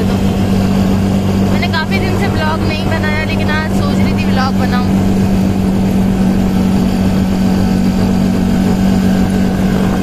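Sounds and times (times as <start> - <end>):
motor rickshaw engine droning: 0.0 - 10.0
road noise: 0.0 - 10.0.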